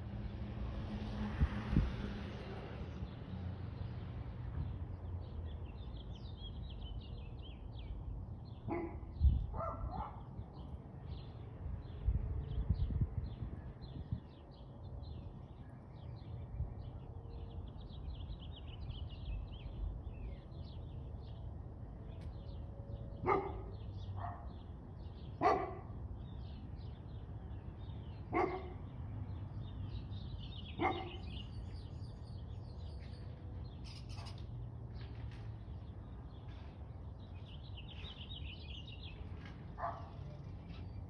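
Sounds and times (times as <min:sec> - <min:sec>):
small birds chirping: 0:05.2 - 0:41.0.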